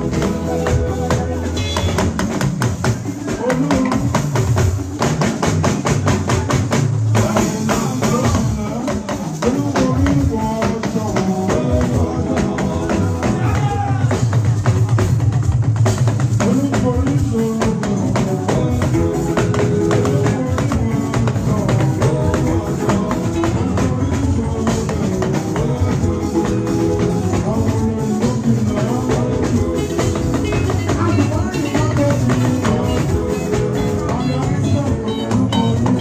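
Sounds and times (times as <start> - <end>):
party band music with percussion: 0.0 - 36.0.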